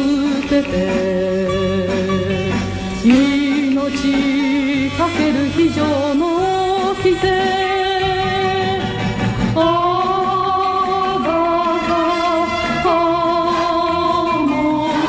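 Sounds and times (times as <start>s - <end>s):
musical accompaniment: 0.0s - 15.0s.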